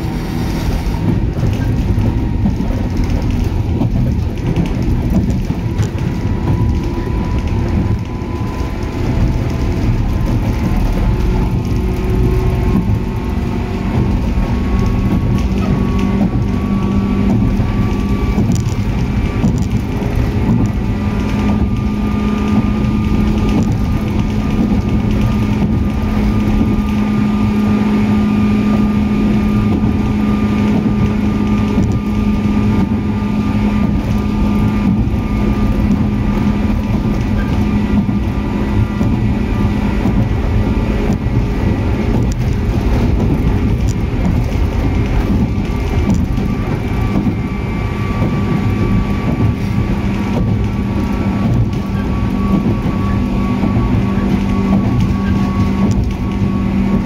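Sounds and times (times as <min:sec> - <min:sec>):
wheel and rail rumble: 0:00.0 - 0:57.0.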